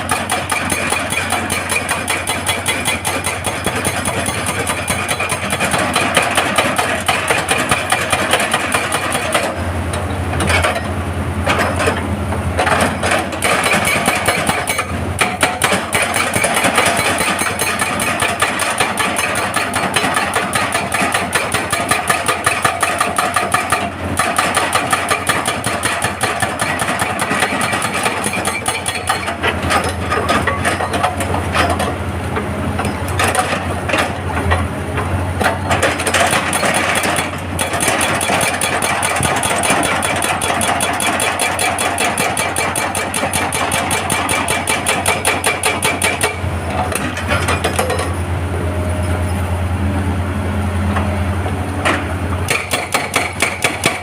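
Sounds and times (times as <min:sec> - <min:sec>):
hydraulic breaker hammering rock: 0:00.0 - 0:32.0, 0:32.8 - 0:48.2, 0:51.8 - 0:54.0
diesel engine running: 0:00.0 - 0:54.0.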